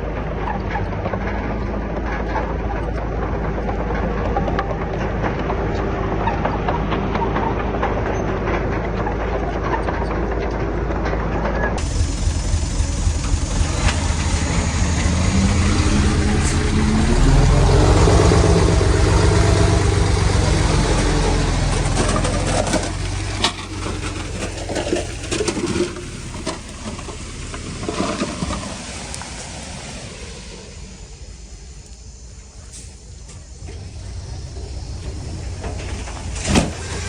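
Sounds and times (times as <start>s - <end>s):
knocks and clatter: 0.0s - 29.5s, 33.3s - 37.0s
heavy machine diesel engine: 0.0s - 37.0s.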